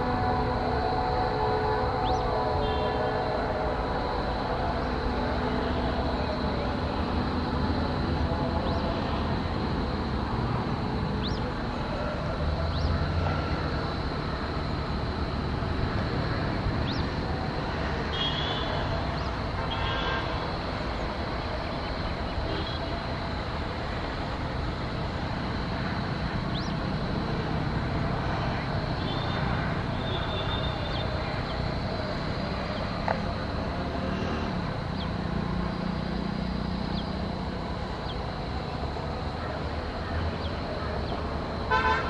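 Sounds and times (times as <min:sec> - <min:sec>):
vehicle rumble: 0:00.0 - 0:42.0.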